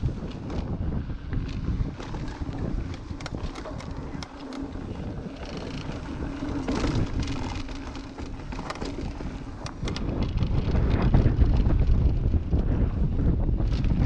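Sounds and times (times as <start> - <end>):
bike knocking and rattling: 0.0 - 14.0
bike tyres rolling on dirt: 0.0 - 14.0
wind buffeting microphone: 0.0 - 14.0.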